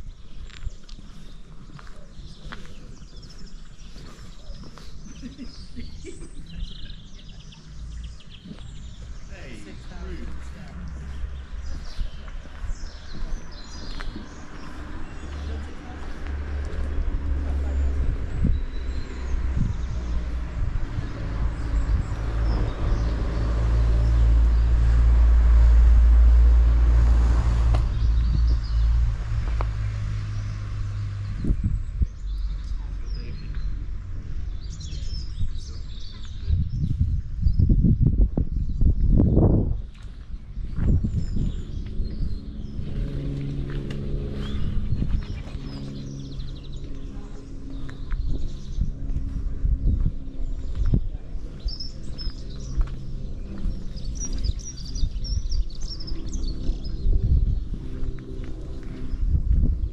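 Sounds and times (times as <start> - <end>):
small birds chirping: 0.0 - 26.8, 27.6 - 59.9
low outdoor rumble: 0.0 - 59.9.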